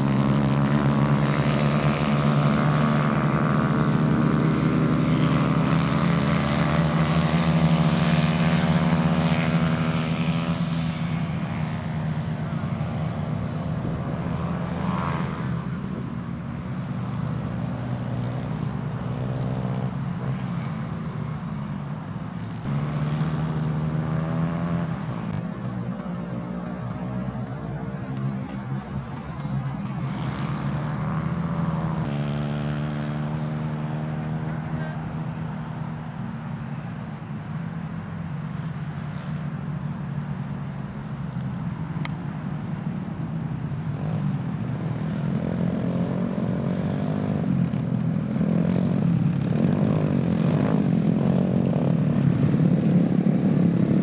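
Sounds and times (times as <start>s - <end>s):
kart engines buzzing: 0.0s - 54.0s.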